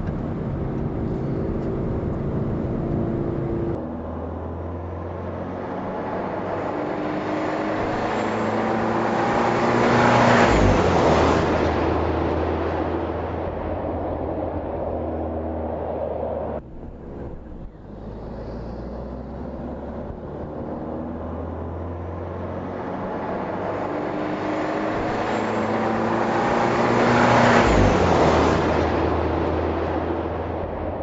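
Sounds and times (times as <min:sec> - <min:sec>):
car engine and exhaust at speed: 0:00.0 - 0:31.0.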